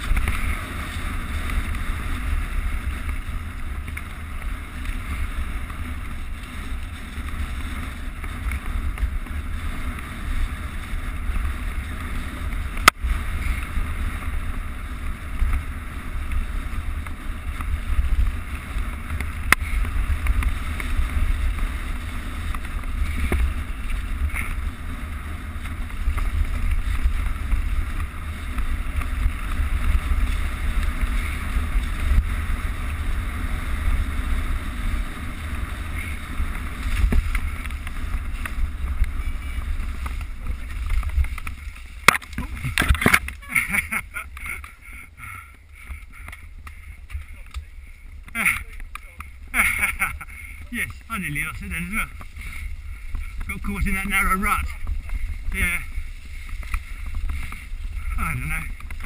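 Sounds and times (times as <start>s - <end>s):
bike knocking and rattling: 0.0s - 59.0s
bike tyre rumble: 0.0s - 59.0s
wind buffeting microphone: 0.0s - 59.0s.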